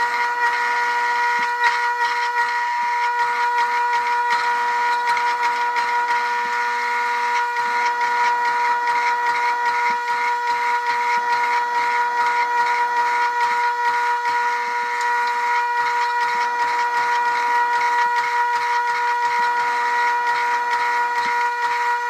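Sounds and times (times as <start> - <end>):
hydraulic pump whine: 0.0 - 22.0.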